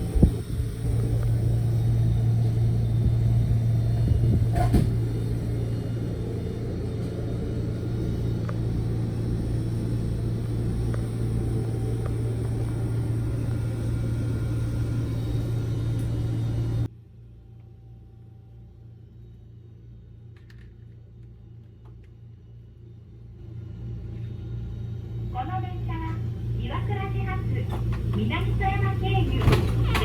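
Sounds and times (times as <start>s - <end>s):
electric train humming and rumbling: 0.0s - 30.0s.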